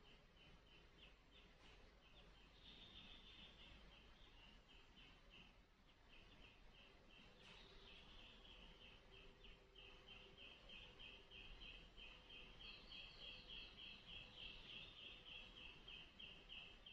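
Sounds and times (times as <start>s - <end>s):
low room hiss: 0.0s - 16.9s.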